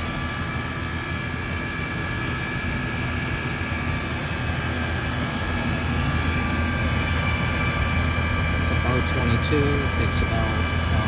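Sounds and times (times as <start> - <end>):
compressor hum: 0.0 - 11.0
condenser fan rushing: 0.0 - 11.0.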